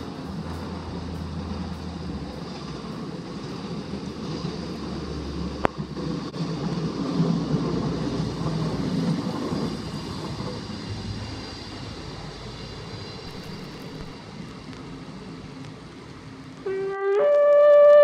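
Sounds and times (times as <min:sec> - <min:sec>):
diesel railcar passing: 0:00.0 - 0:18.0.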